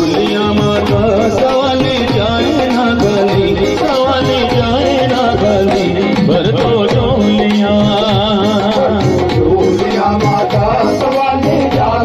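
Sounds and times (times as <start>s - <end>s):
band playing: 0.0s - 12.0s
hand-drum beat: 0.0s - 12.0s
man singing through microphone: 0.0s - 12.0s.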